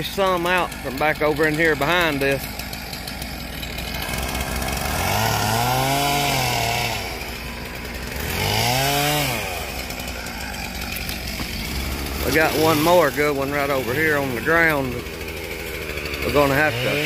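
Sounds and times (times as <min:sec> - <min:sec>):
chainsaw idling and revving: 0:00.0 - 0:17.0.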